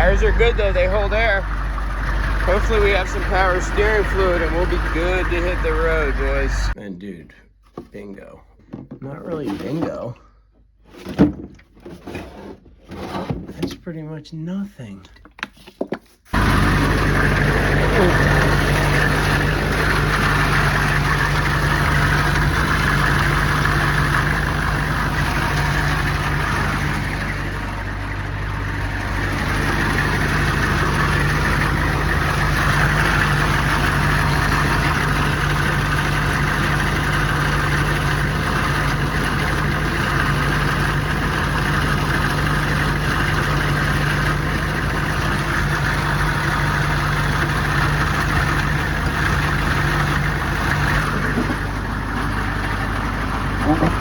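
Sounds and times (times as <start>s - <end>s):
vehicle engine running: 0.0s - 6.8s, 16.3s - 54.0s.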